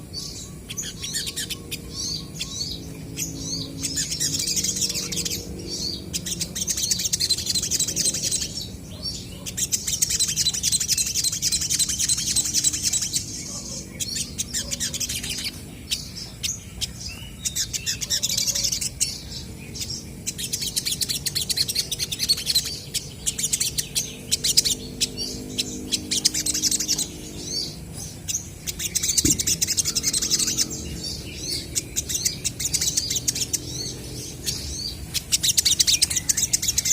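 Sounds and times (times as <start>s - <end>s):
birds twittering trills: 0.0s - 36.9s.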